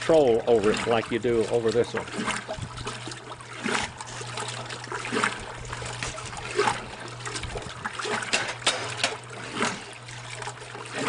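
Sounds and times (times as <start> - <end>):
washing machine motor hum: 0.0 - 11.0
water splashing in tub: 0.0 - 11.0.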